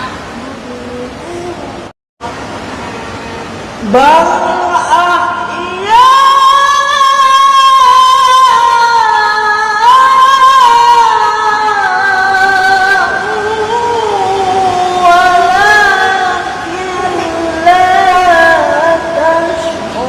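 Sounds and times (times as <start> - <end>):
man reciting melodically: 3.8 - 20.0.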